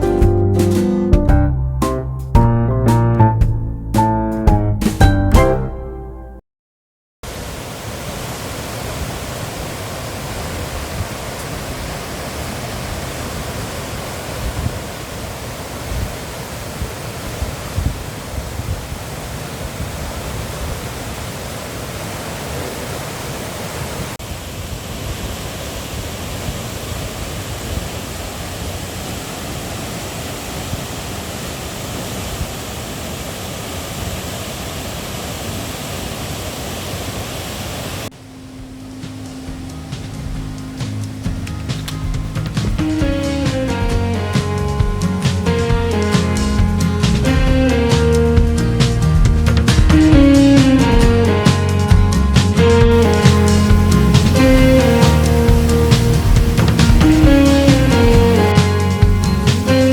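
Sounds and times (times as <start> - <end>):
rushing mountain stream: 7.2 - 59.9.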